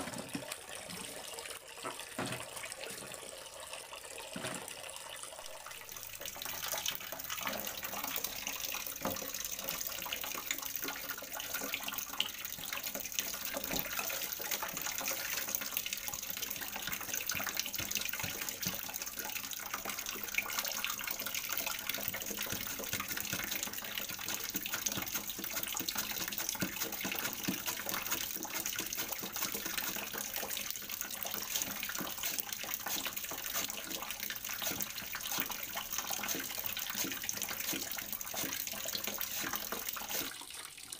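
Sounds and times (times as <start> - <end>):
water splashing into tub: 5.7 - 40.9.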